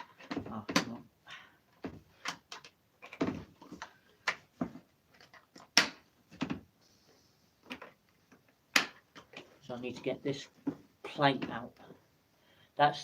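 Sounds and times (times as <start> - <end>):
plastic parts clicking and knocking: 0.0 - 1.1, 1.7 - 6.7, 7.6 - 12.0.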